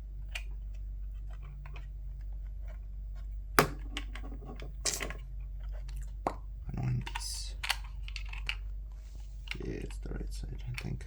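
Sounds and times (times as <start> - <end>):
plastic parts clicking and tapping: 0.2 - 8.7, 9.4 - 11.0.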